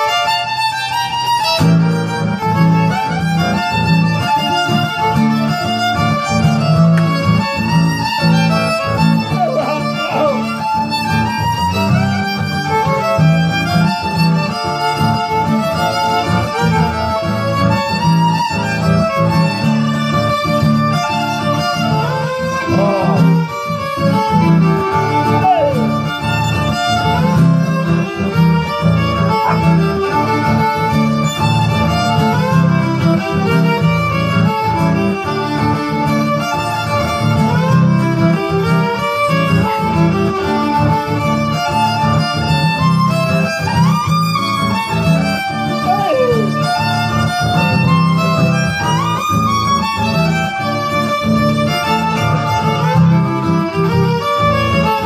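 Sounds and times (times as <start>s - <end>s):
acoustic guitar accompaniment: 0.0s - 55.0s
violin melody: 0.0s - 55.0s.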